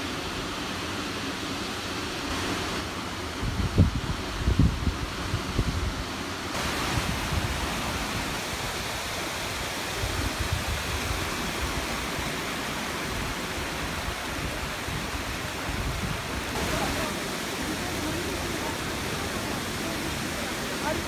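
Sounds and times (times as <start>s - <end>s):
waterfall rushing: 0.0s - 21.0s
wind rumbling on microphone: 3.3s - 20.3s.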